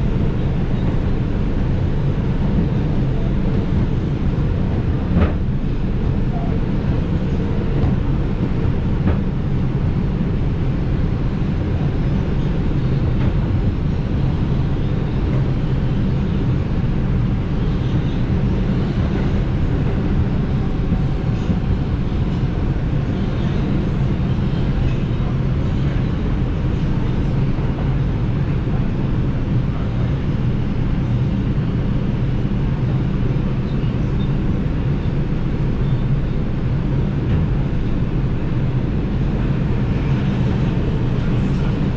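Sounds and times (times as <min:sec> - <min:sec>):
subway train rumble: 0:00.0 - 0:41.9.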